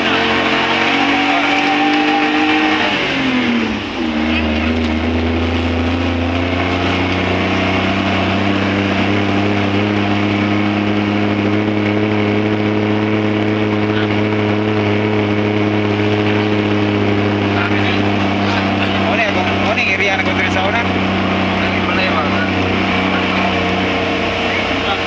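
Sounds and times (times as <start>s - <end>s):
car engine from inside cabin: 0.0s - 25.0s
road noise: 0.0s - 25.0s.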